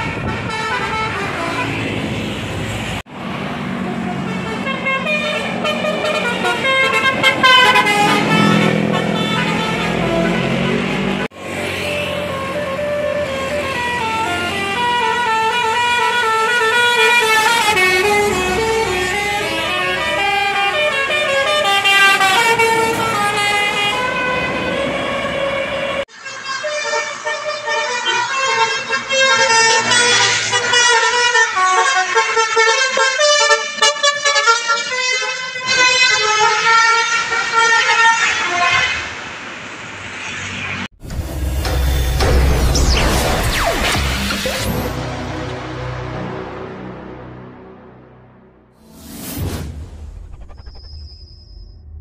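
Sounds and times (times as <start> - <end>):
musical bus horn melody: 0.0 - 2.1, 3.8 - 39.1, 44.5 - 48.8.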